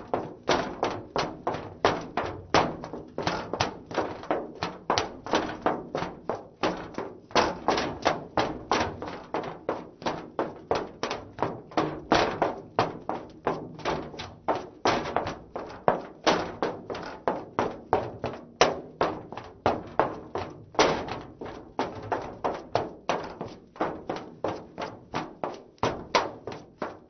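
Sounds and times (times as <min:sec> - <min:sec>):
heeled shoes running on metal: 0:00.0 - 0:27.0.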